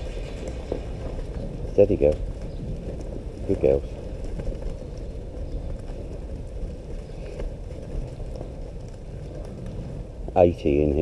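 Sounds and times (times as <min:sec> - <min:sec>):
hooves shuffling and clicking: 0:00.0 - 0:11.0
low rumble: 0:00.0 - 0:11.0.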